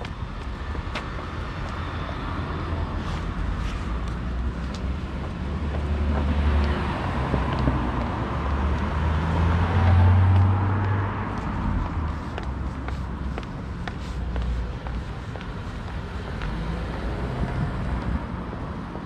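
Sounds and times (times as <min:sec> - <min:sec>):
rumble of passing vehicles: 0:00.0 - 0:19.0.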